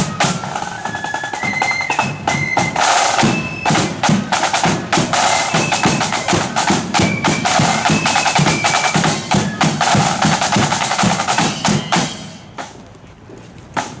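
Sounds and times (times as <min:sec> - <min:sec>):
marching band drums: 0:00.0 - 0:12.9, 0:13.8 - 0:14.0.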